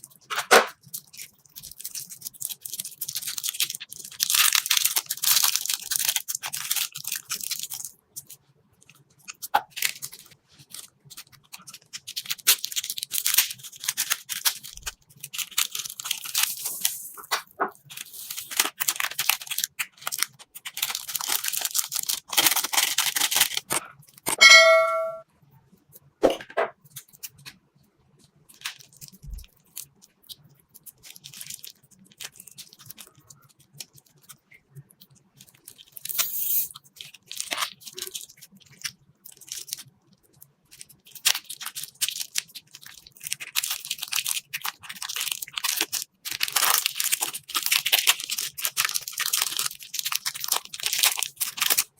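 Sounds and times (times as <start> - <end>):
hands squeezing slime: 0.1 - 23.8, 28.6 - 51.9.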